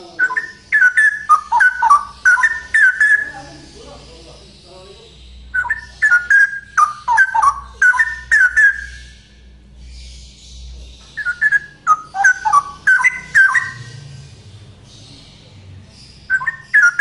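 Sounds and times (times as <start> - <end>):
bird singing whistled notes: 0.0 - 17.0.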